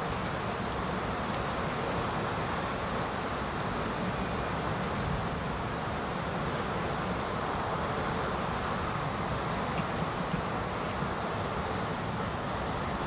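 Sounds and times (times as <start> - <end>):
outdoor ambient rush: 0.0 - 13.0.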